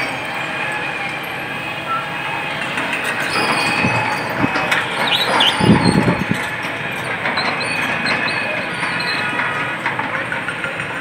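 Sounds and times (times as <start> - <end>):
heavy machinery running: 0.0 - 11.0.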